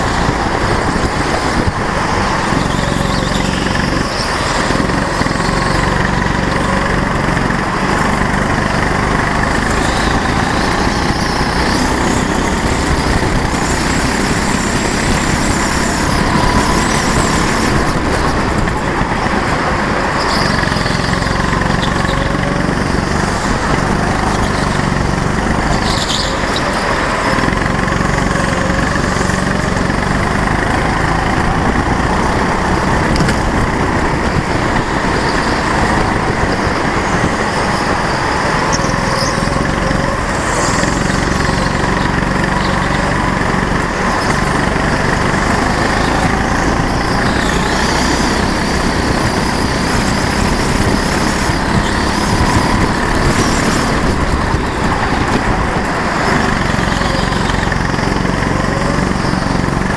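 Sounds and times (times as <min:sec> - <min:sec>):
go-kart engine revving: 0:00.0 - 0:59.9
high squeals: 0:00.0 - 0:59.9
wind and tyre noise: 0:00.0 - 0:59.9.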